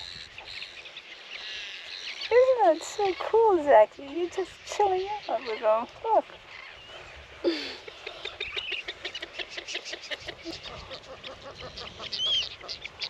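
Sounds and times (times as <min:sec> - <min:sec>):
colony of birds chattering: 0:00.0 - 0:13.0.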